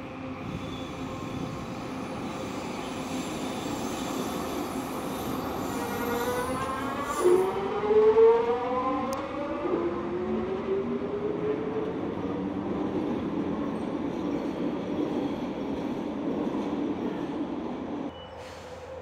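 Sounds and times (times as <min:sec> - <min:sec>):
train rumbling on guideway: 0:00.0 - 0:19.0.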